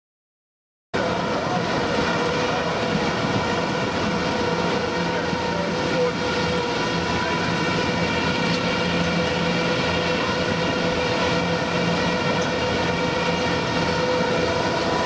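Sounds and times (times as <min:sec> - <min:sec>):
conveyor machine humming and whining: 0:01.0 - 0:15.0.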